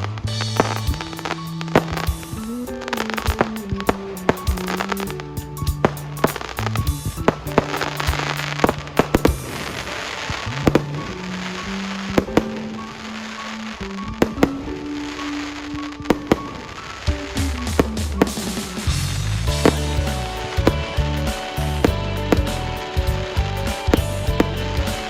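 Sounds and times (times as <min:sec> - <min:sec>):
fireworks bangs and crackles: 0:00.0 - 0:25.0
music with long held notes: 0:00.0 - 0:25.0.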